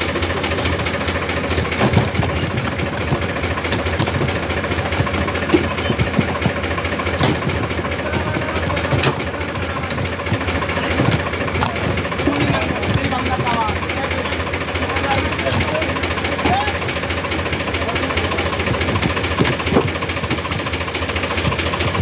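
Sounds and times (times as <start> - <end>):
sharp engine knocks: 0.0 - 22.0
tractor diesel engine running: 0.0 - 22.0.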